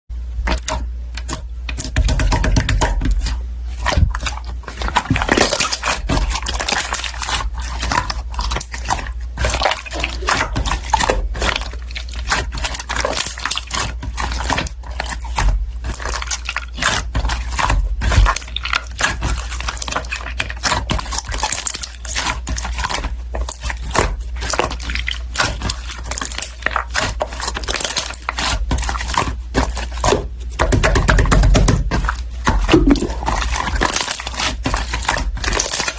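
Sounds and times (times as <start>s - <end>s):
hands squishing slime: 0.4s - 35.9s.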